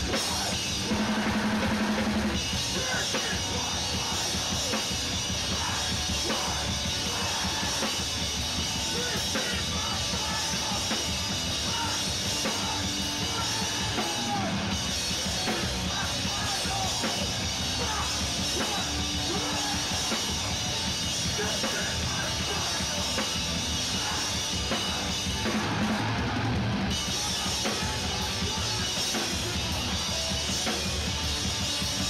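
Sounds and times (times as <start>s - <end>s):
drum kit: 0.0s - 32.0s
punk band playing live: 0.0s - 32.0s
shouted vocals: 2.7s - 30.0s.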